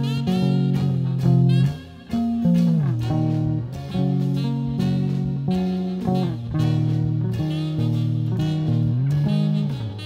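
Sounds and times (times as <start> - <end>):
electric guitar melody: 0.0 - 10.0.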